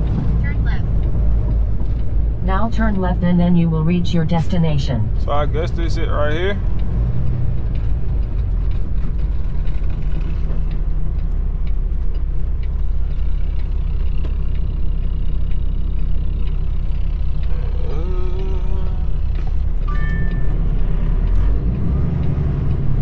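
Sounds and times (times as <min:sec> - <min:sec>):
road noise: 0:00.0 - 0:23.0
truck diesel engine rumble: 0:00.0 - 0:23.0.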